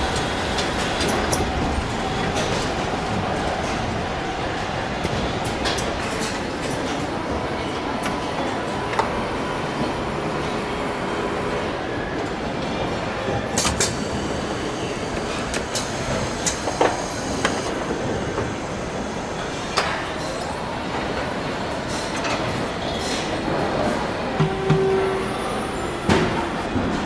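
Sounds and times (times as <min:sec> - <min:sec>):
workshop background noise: 0:00.0 - 0:27.0.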